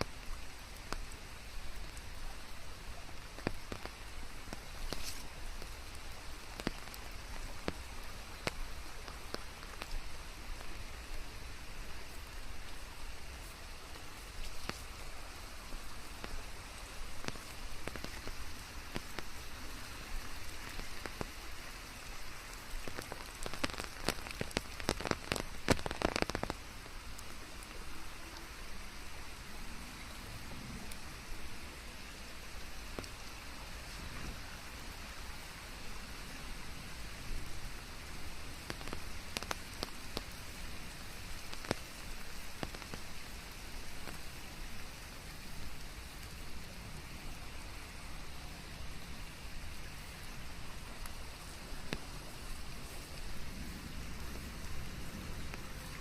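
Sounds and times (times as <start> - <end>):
raindrops ticking: 0.0 - 29.3, 29.9 - 56.0
rain falling: 0.0 - 56.0.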